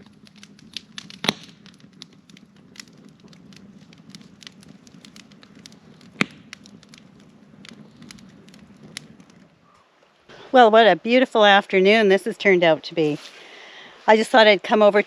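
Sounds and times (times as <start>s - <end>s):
campfire wood crackling: 0.0s - 15.0s.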